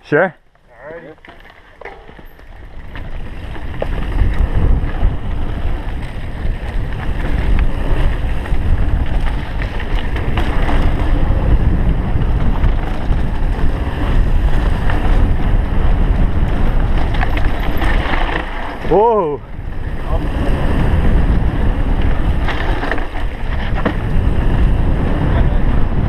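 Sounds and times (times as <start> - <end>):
bike rattling over dirt trail: 0.0 - 26.0
wind buffeting microphone: 2.0 - 26.0.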